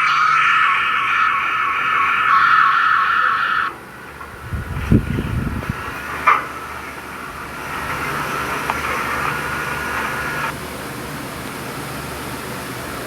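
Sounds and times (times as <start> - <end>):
short burst: 0.0 - 10.6
steady hiss-like noise: 0.0 - 13.0.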